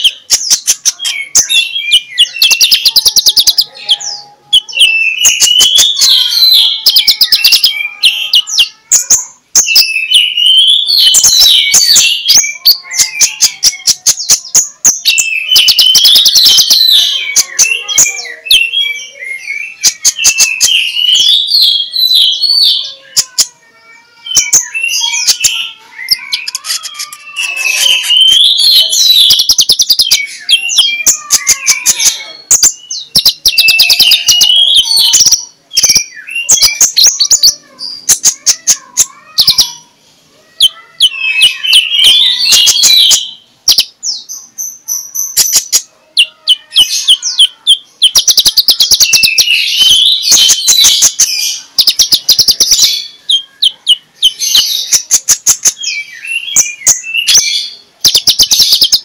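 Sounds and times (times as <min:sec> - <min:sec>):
sunbird singing: 0:00.0 - 0:59.0.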